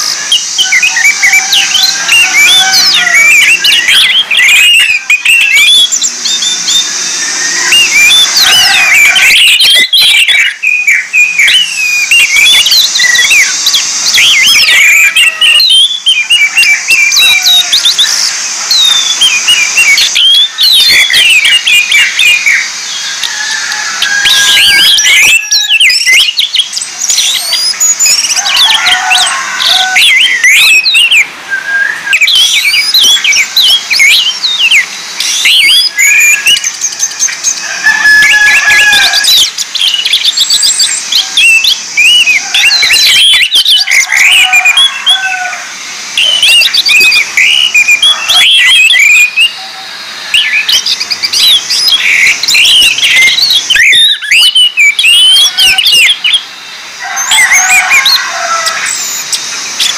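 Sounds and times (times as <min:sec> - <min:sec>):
bird song chirps and whistles: 0:00.0 - 0:59.9.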